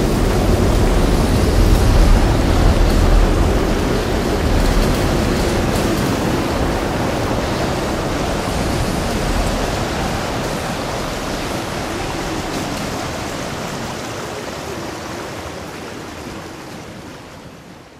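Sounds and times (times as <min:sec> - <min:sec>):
heavy rain: 0:00.0 - 0:17.9
wind: 0:00.0 - 0:17.9.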